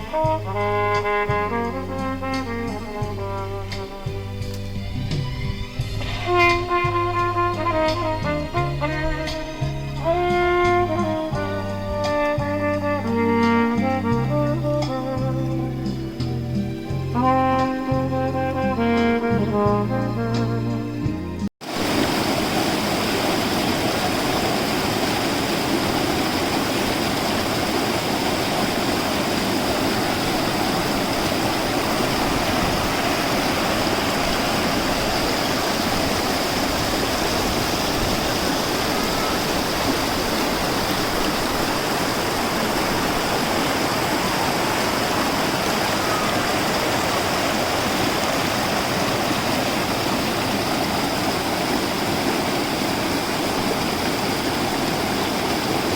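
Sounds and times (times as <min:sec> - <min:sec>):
rushing water: 0:00.0 - 0:19.6, 0:21.6 - 0:55.9.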